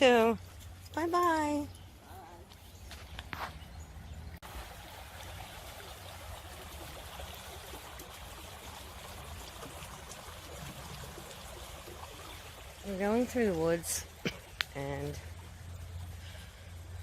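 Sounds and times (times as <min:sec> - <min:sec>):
stream trickling: 0:00.0 - 0:17.0.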